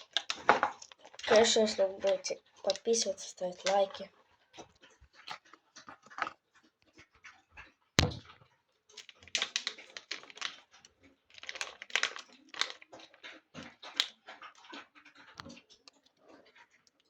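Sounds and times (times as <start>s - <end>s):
dog crunching food from bowl: 0.0s - 2.9s, 4.6s - 7.8s, 8.9s - 17.0s.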